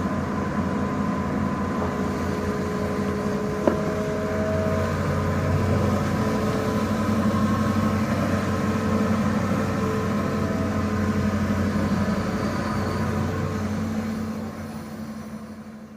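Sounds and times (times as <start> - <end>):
heavy diesel engine running: 0.0 - 15.9.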